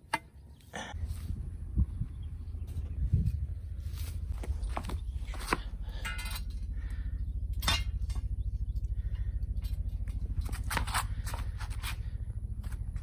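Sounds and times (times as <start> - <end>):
low throbbing hum: 0.8 - 13.0.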